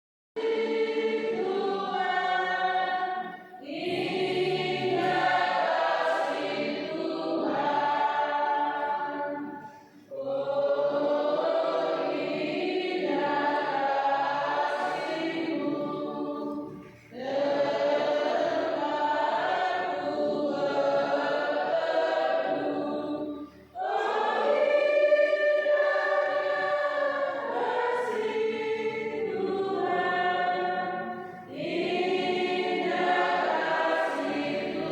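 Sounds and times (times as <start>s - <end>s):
church choir singing a hymn: 0.4s - 34.9s.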